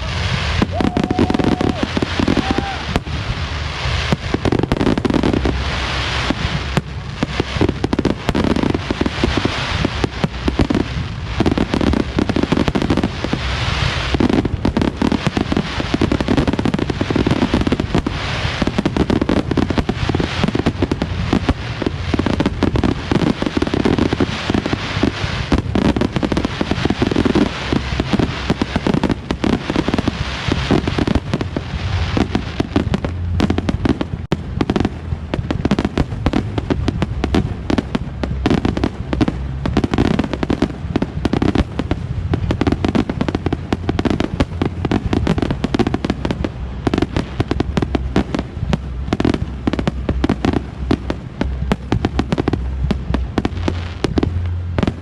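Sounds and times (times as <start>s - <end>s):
fireworks bursts and crackle: 0.0s - 55.0s.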